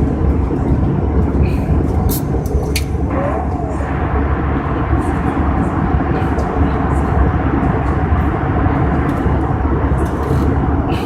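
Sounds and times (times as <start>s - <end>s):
airplane cabin engine roar: 0.0s - 11.0s.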